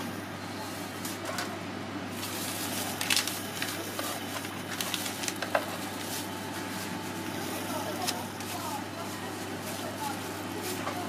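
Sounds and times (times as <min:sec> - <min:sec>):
paper sleeve rustling: 0:02.1 - 0:11.0.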